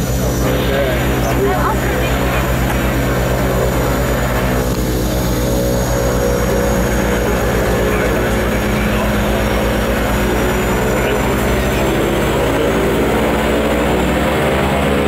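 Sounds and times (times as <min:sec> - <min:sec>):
low propeller pulsing: 0:00.0 - 0:15.0
turboprop engines drone: 0:00.0 - 0:15.0.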